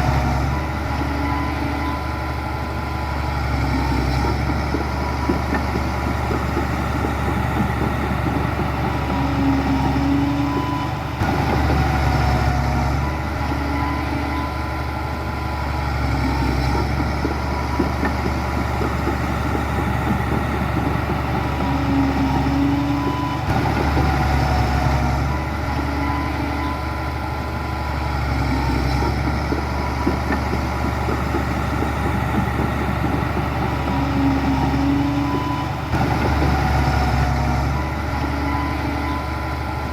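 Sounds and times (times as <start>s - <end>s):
heavy machinery diesel engines rumbling: 0.0s - 39.9s.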